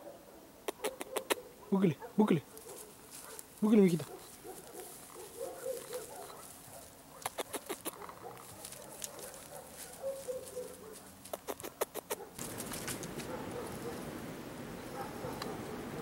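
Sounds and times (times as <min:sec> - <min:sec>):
dry grass and twigs crackling: 0:02.3 - 0:16.0.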